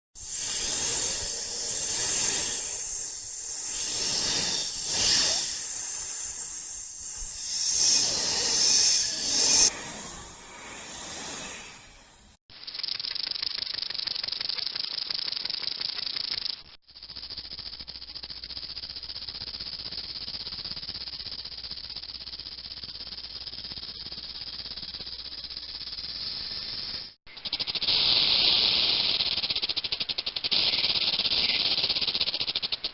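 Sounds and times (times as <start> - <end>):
snake hissing: 0.2 - 16.6, 17.2 - 32.9
snake rattle: 0.2 - 32.9.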